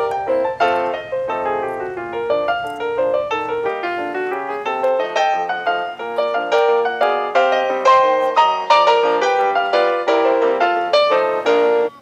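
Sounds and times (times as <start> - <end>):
piano music quick run: 0.0 - 12.0.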